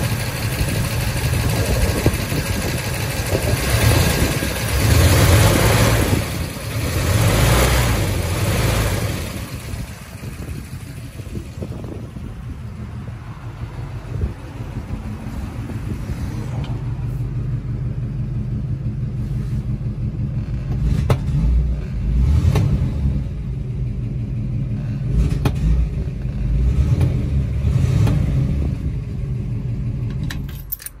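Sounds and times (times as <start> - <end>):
car engine rumbling: 0.0 - 31.0.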